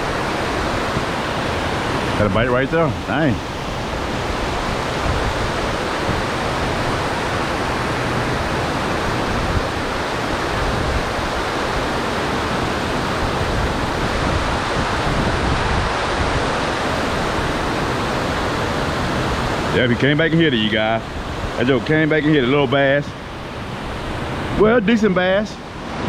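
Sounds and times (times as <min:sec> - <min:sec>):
fast-flowing water rushing: 0:00.0 - 0:26.0.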